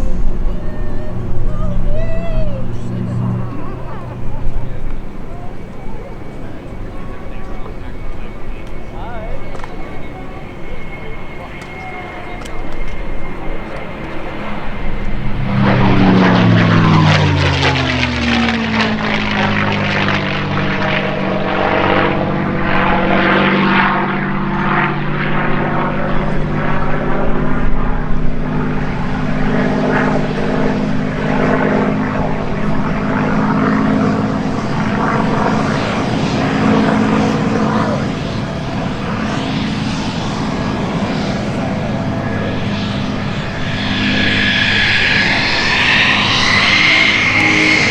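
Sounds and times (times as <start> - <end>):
aircraft engine drone: 0.0 - 47.9.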